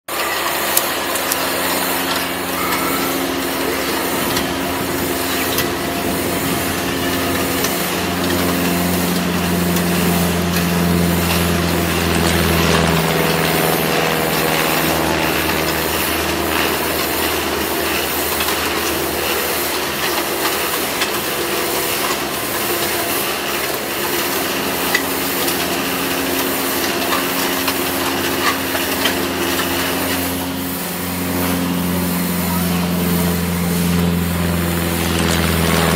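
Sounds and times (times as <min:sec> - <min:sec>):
concrete mixer humming: 0:00.0 - 0:35.9.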